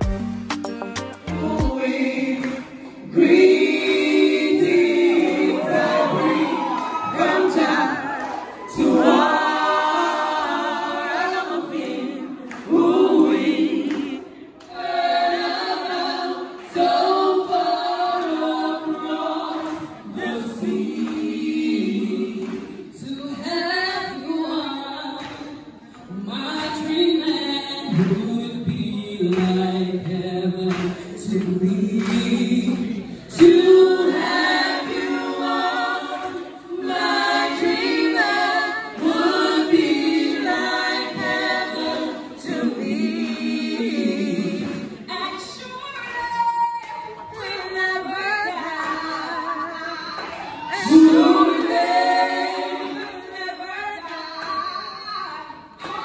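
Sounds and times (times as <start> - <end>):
group singing in harmony: 0.0 - 56.0.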